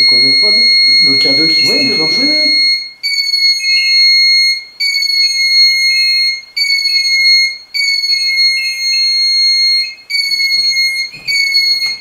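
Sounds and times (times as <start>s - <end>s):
high-pitched electronic alarm beep: 0.0s - 12.0s.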